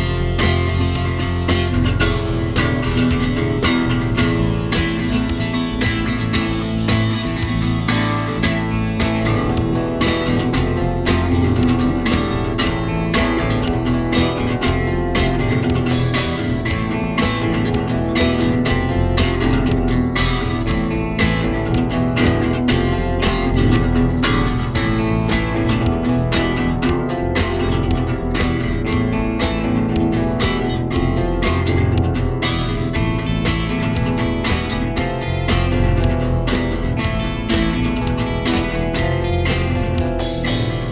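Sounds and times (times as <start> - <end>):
guitar band music: 0.0 - 40.9.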